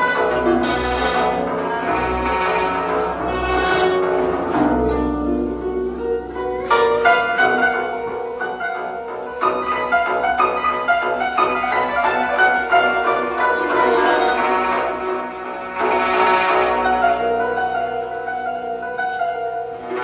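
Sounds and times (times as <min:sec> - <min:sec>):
instrumental string music: 0:00.0 - 0:20.0.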